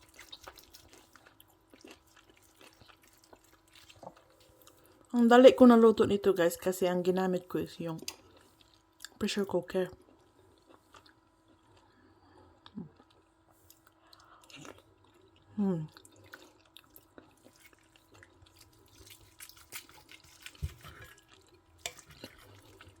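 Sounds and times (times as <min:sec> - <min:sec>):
person chewing up close: 0:00.0 - 0:05.1, 0:08.0 - 0:09.2, 0:10.0 - 0:23.0.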